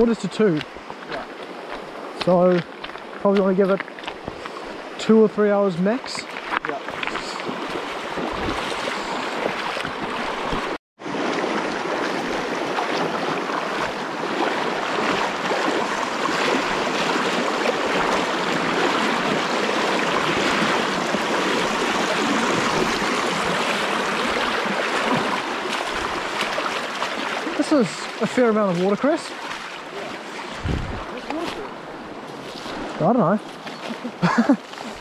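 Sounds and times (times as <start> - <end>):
river water rushing over stones: 0.0 - 35.0.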